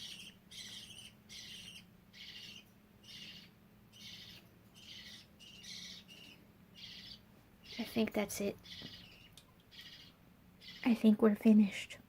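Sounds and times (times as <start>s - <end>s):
budgerigars chirping: 0.0s - 11.1s.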